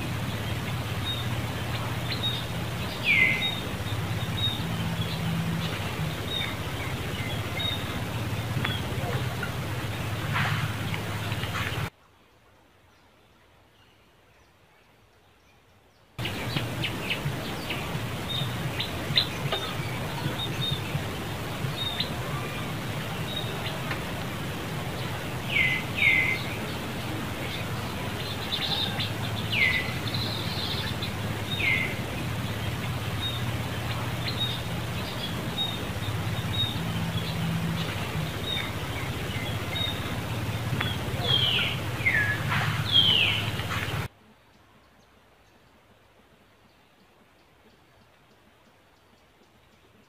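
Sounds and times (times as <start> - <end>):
steady hiss: 0.0 - 12.6, 16.2 - 44.4.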